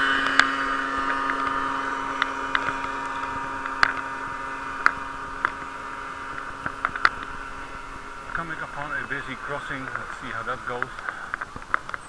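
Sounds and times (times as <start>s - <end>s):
muffled bicycle ride hum: 0.0s - 12.0s.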